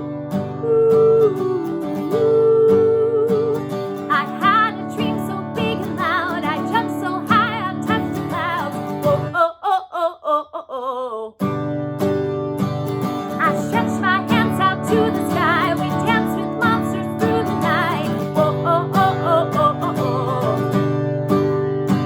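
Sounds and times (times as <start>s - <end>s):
strummed acoustic guitar: 0.0s - 9.4s, 11.4s - 22.0s
wordless ooh singing: 0.6s - 11.4s, 13.4s - 20.8s.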